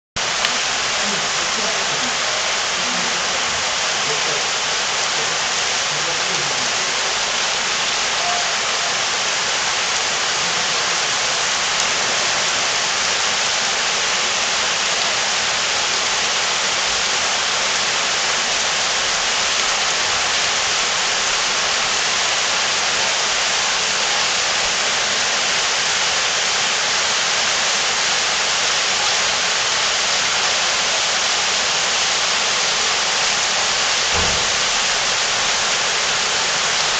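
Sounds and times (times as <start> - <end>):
heavy rain pouring: 0.2 - 36.9.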